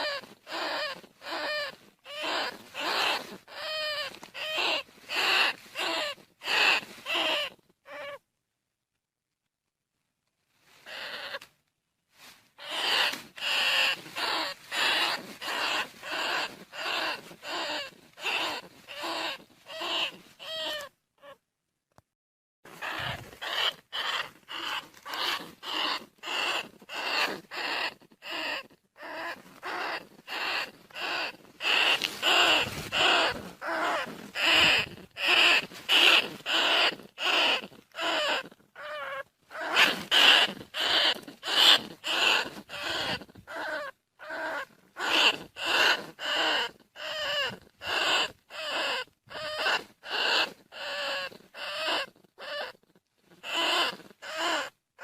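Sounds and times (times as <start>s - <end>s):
rat squeaky cries: 0.0s - 8.2s, 10.9s - 11.4s, 12.6s - 21.4s, 22.8s - 55.0s.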